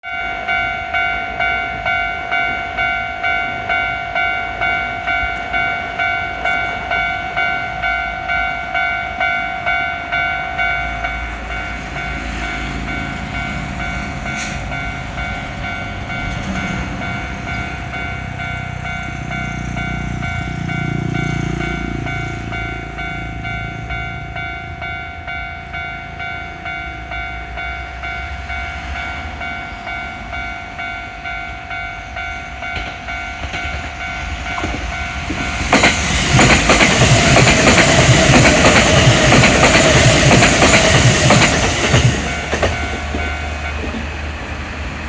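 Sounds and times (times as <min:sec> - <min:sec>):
level-crossing alarm bell ringing: 0:00.0 - 0:44.3
train rumble and wheel noise: 0:00.1 - 0:45.0.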